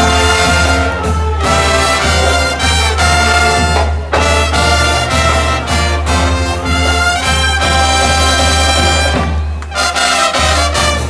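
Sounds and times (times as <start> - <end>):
brass band playing loudly: 0.0 - 11.0.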